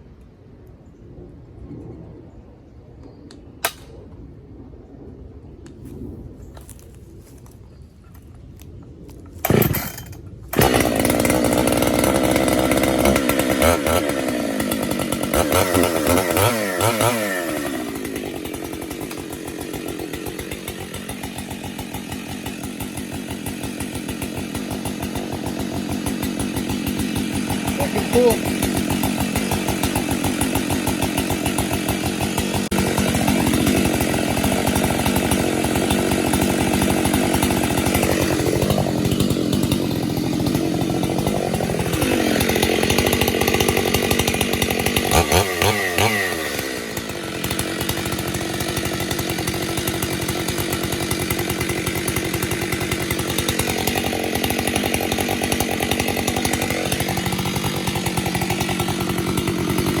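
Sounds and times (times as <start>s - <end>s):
chainsaw engine revving: 9.4s - 60.0s.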